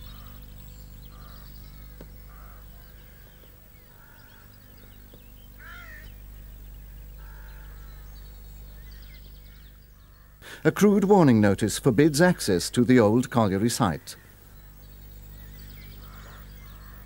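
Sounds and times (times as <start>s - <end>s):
harsh caw-like bird calls: 0.0s - 10.6s, 13.8s - 17.0s
birds chirping and trilling: 0.0s - 17.0s
steady low hum: 0.0s - 17.0s.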